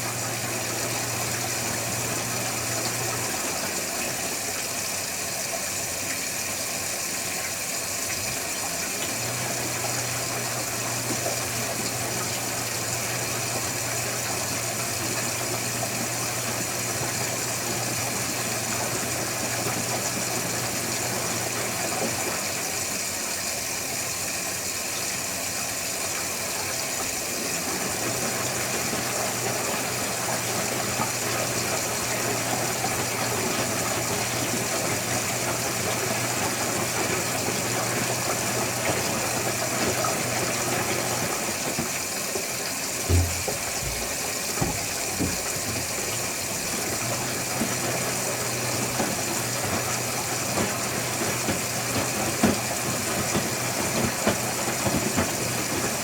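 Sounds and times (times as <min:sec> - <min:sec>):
washing machine drum motor humming: 0:00.0 - 0:56.0.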